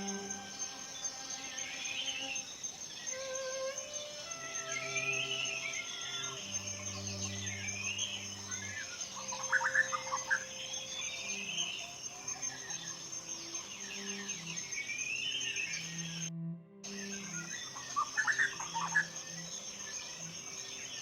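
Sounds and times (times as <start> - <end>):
birds singing: 0.0 - 16.3, 16.9 - 21.0
high insect drone: 0.0 - 21.0.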